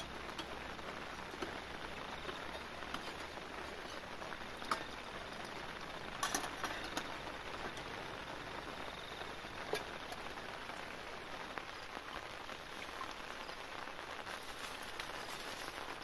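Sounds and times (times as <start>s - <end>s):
rain hissing on a tent: 0.0s - 16.0s.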